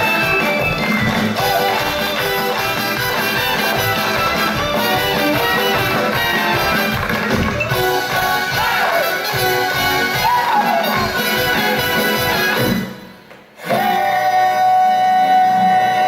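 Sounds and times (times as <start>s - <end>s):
lively orchestral music: 0.0s - 13.3s.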